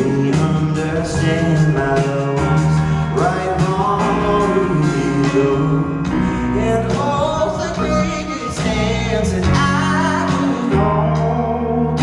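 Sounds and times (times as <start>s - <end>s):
bass: 0.0s - 12.0s
keyboards: 0.0s - 12.0s
man singing: 0.0s - 12.0s.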